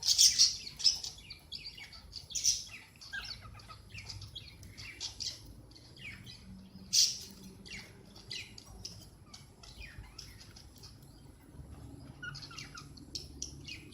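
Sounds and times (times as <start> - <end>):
cockatiels chirping: 0.0 - 13.9.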